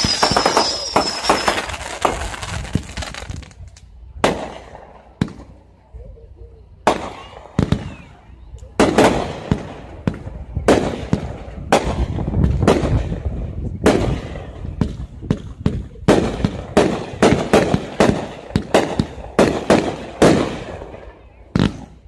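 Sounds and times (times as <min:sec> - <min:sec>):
fireworks bangs: 0:00.0 - 0:05.6, 0:06.8 - 0:08.2, 0:08.8 - 0:22.0.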